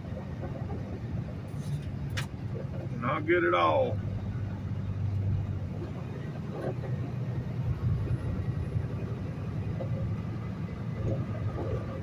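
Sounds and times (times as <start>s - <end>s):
truck diesel engine rumble: 0.0s - 12.0s.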